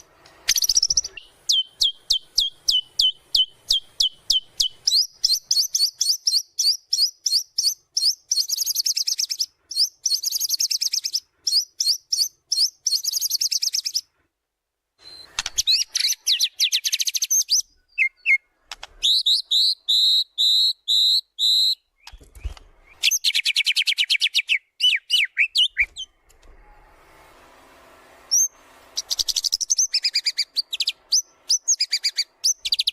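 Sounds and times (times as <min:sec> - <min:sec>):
bird singing trills: 0:00.0 - 0:14.1, 0:15.0 - 0:26.2, 0:28.3 - 0:32.9.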